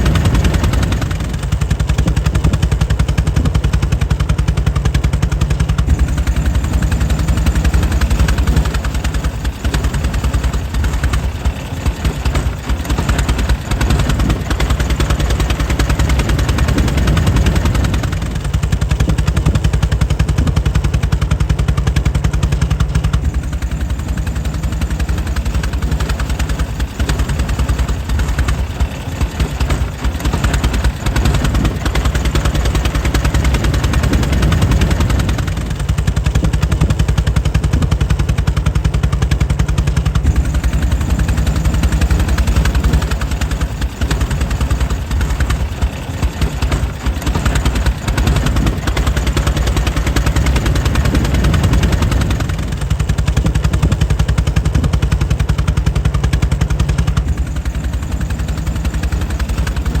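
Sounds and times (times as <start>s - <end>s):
engine running: 0.0s - 60.0s.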